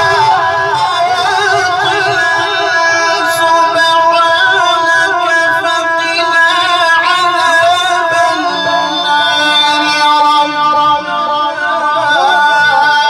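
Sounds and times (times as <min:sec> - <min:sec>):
man reciting melodic chant: 0:00.0 - 0:13.0.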